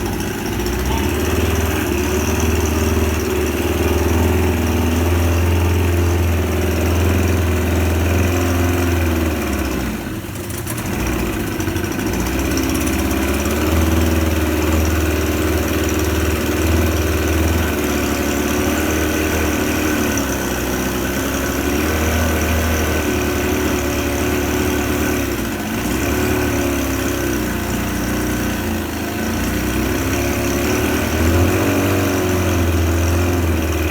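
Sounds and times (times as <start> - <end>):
outboard engine running: 0.0 - 33.9.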